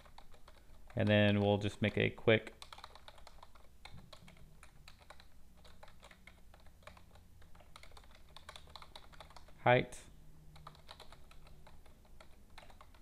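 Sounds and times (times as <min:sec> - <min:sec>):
computer keyboard typing: 0:00.0 - 0:09.6, 0:10.5 - 0:13.0.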